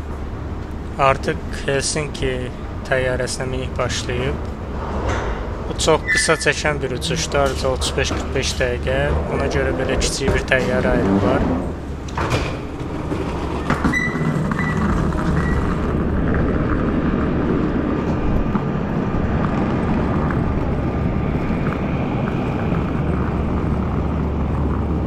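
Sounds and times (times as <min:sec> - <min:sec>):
aircraft engines droning: 0:00.0 - 0:25.0
constant low hum: 0:00.0 - 0:25.0.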